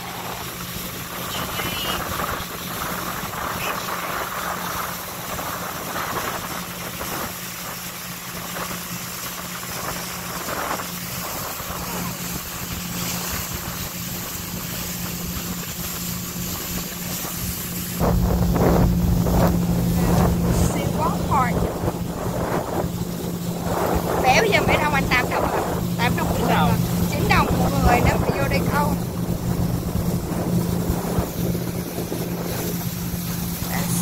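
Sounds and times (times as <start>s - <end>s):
motorboat engine humming: 0.0s - 34.0s
water noise: 0.0s - 34.0s
wind: 0.0s - 34.0s.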